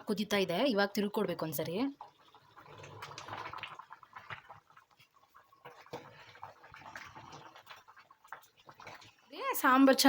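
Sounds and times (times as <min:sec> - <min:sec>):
curry bubbling in pot: 0:00.0 - 0:10.0.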